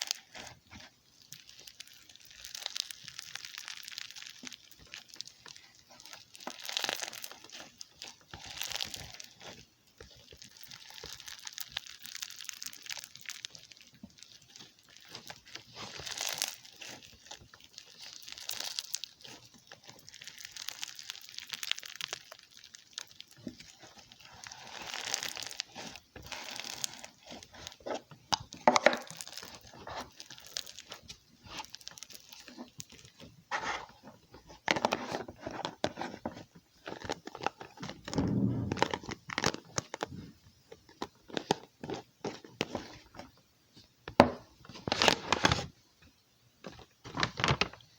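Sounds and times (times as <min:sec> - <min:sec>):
slime crackling and popping: 0:00.0 - 0:43.0.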